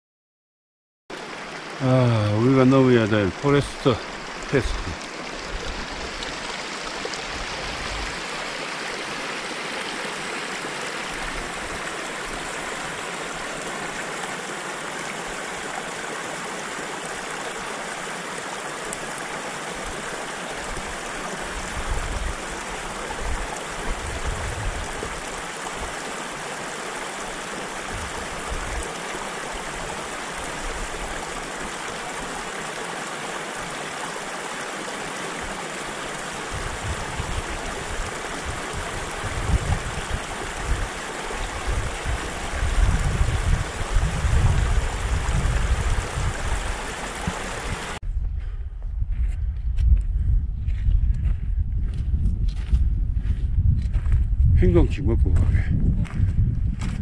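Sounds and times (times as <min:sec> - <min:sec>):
stream running over rocks: 0:01.1 - 0:48.0.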